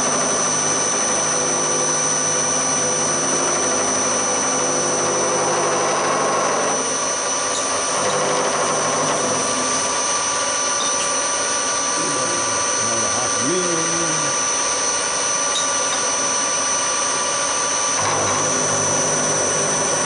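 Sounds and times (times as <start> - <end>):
end mill cutting metal: 0.0 - 20.0
motor whine: 0.0 - 20.0.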